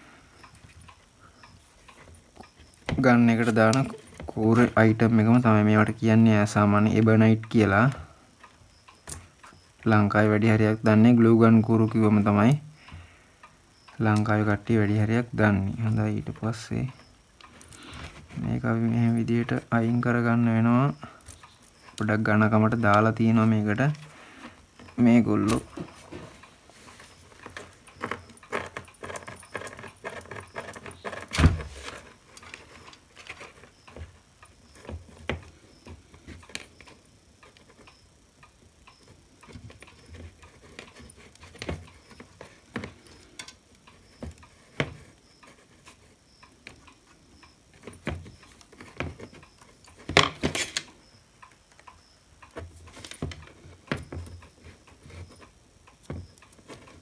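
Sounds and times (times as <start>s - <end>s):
tools tapping plastic parts: 0.4s - 9.8s, 11.7s - 57.0s.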